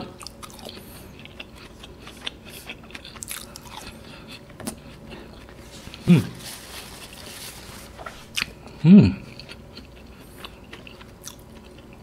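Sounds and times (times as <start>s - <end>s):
close chewing with crunches: 0.0s - 12.0s.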